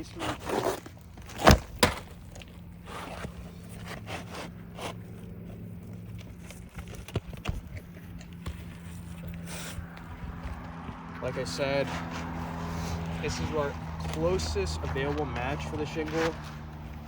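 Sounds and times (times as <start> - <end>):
knocks and scrapes on roof shingles: 0.0 - 16.8
steady low hum: 0.0 - 17.0.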